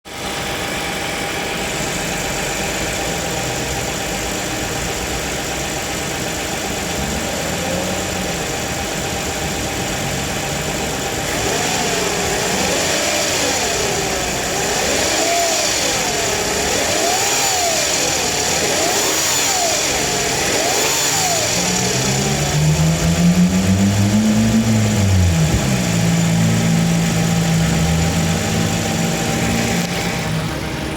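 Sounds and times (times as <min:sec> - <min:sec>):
car engine running: 0:00.1 - 0:30.9
engine revving: 0:01.8 - 0:30.9.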